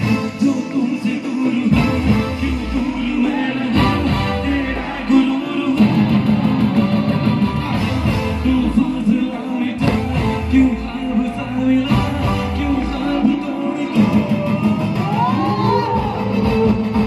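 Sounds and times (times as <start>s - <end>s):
person singing into a microphone: 0.0s - 7.2s, 8.1s - 17.0s
drums with dance beat: 0.0s - 17.0s
electric guitar: 0.0s - 17.0s.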